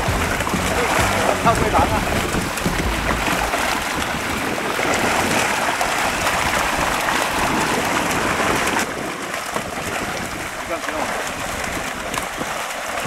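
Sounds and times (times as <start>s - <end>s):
water splashing from thrashing fish: 0.0s - 13.0s.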